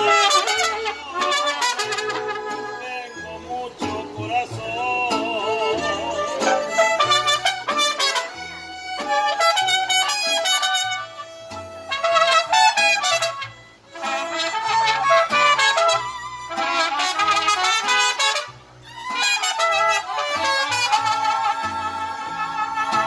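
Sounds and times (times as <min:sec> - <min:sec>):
trumpets playing melody: 0:00.0 - 0:04.4, 0:05.1 - 0:23.0
bass guitar: 0:00.0 - 0:17.8, 0:18.4 - 0:23.0
guitar strumming: 0:00.0 - 0:23.0
violins with vibrato: 0:00.0 - 0:23.0.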